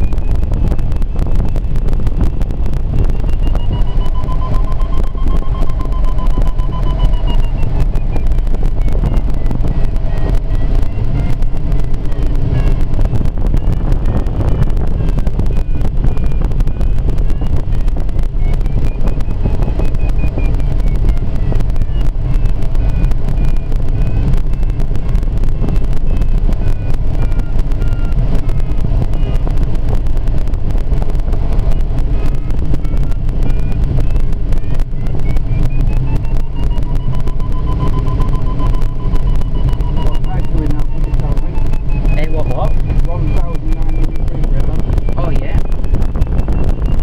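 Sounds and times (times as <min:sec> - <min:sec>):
airflow rushing in cockpit: 0:00.0 - 0:47.0
variometer beeping tone: 0:00.0 - 0:47.0.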